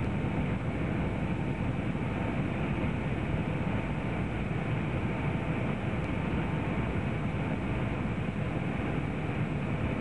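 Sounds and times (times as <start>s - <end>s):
airliner cabin engine rumble: 0.0s - 10.0s
faint steady whine: 0.0s - 10.0s.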